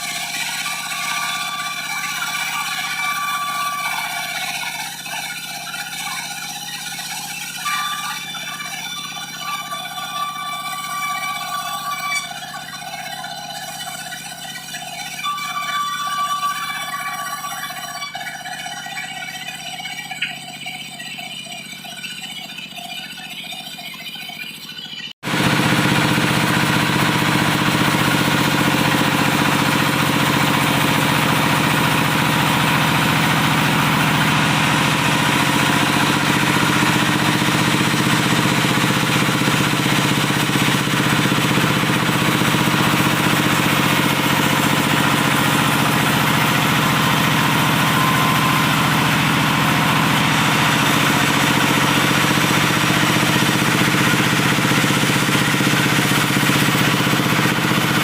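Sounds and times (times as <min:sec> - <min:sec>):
diesel engine driving wood saw: 0:00.0 - 0:58.0.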